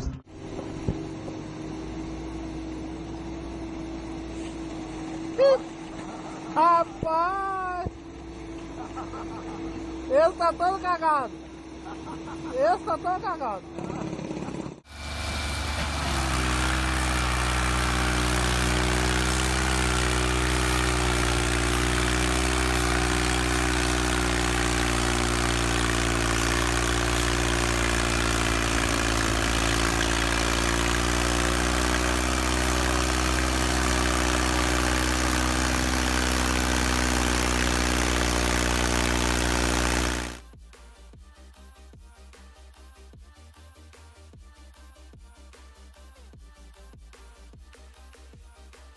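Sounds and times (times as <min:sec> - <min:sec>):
tractor diesel engine running: 0:00.0 - 0:40.4.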